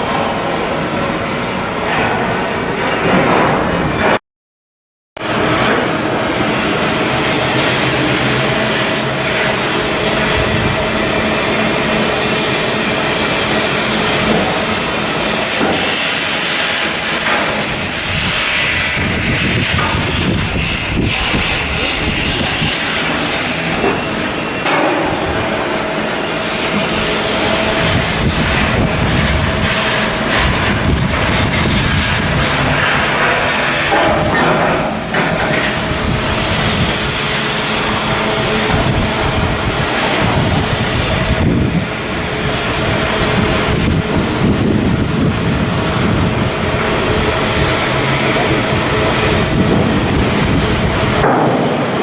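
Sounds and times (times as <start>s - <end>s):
loud steady hiss: 5.2s - 29.1s, 29.9s - 52.0s
machinery running: 5.2s - 52.0s.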